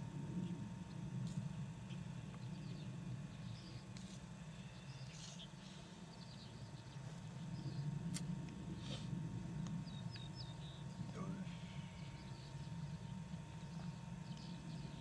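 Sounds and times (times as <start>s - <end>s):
steady low rumble: 0.0s - 15.0s
birds chirping: 1.3s - 15.0s.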